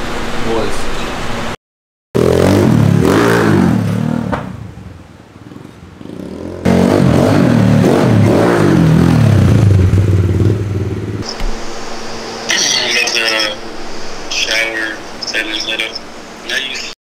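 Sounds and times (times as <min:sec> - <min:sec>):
motorbike engine revving: 0:02.2 - 0:16.8.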